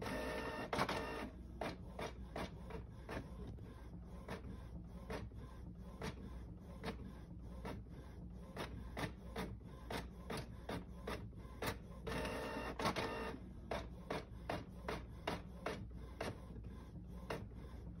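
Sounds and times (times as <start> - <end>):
printer motor whirring: 0.0 - 18.0.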